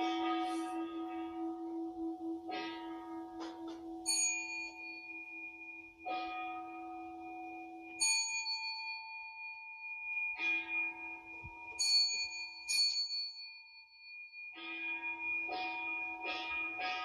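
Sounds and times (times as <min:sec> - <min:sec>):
meditation bells ringing: 0:00.0 - 0:17.0.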